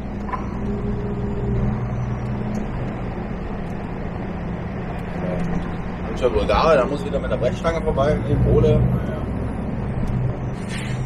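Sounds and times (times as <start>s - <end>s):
diesel engine droning in cab: 0.0s - 11.0s.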